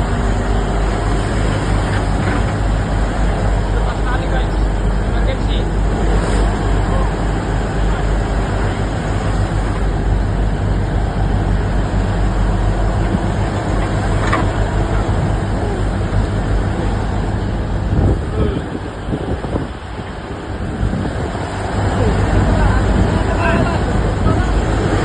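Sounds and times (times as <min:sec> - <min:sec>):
ship engine droning: 0:00.0 - 0:25.0.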